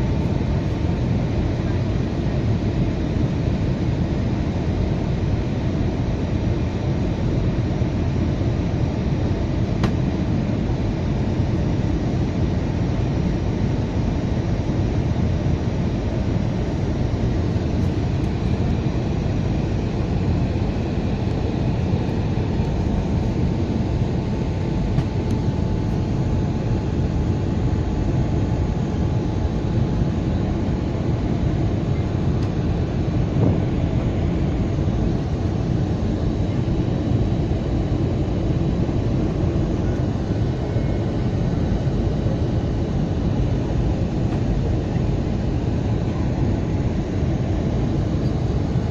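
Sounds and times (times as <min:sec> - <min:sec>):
airplane cabin engine roar: 0:00.0 - 0:48.9.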